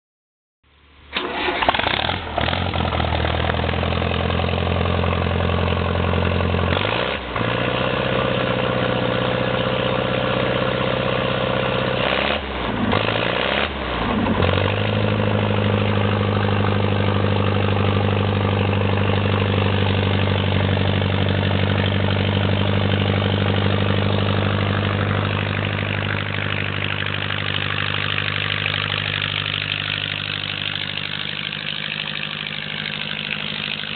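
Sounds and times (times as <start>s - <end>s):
tractor engine starting and running: 0.7s - 33.9s.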